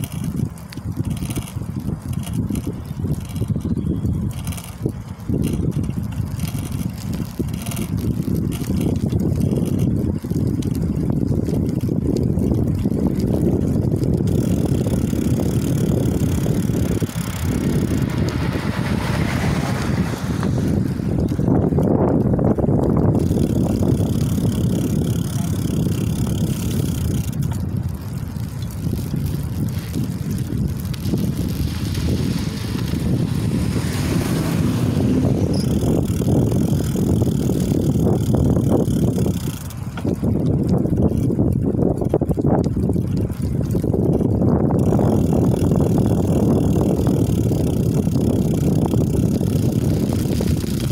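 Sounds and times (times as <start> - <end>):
bicycle tyres on wet asphalt: 0.0 - 50.9
wind buffeting microphone: 0.0 - 50.9.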